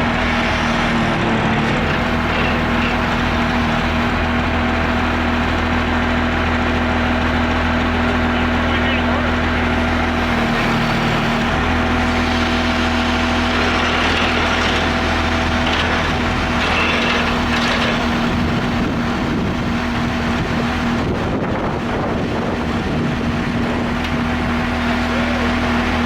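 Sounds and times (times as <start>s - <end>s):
wheel loader diesel engine running: 0.0s - 26.0s.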